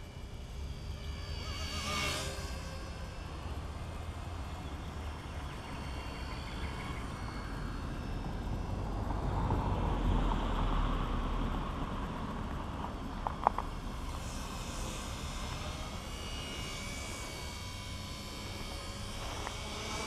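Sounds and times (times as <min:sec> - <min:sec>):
motor passing by: 0:00.0 - 0:20.0.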